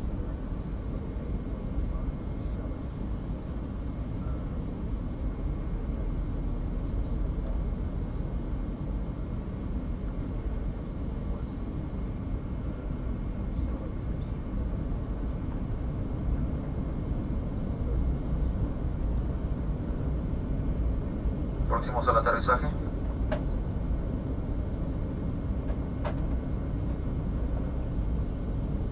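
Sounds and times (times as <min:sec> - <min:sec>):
airplane cabin engine rumble: 0:00.0 - 0:28.9
faint steady whine: 0:00.0 - 0:28.9.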